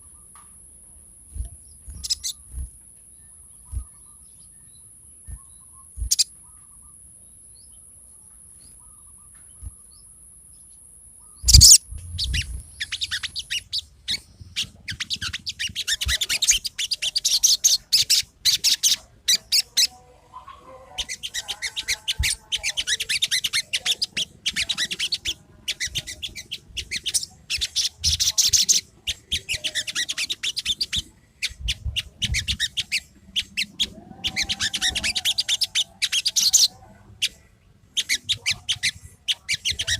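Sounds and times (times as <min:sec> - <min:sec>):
songbird chirping song: 0:00.0 - 0:39.9.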